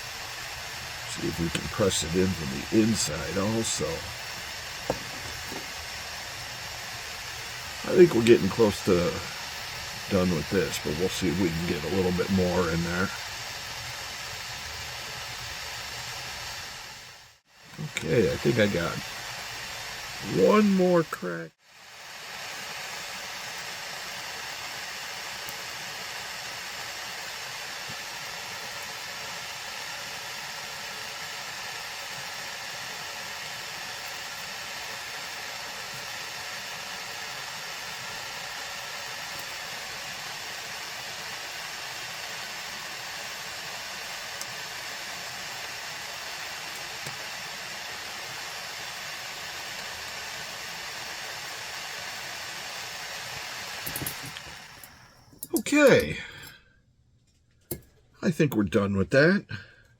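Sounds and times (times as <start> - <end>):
heating tool hissing: 0.0 - 56.6.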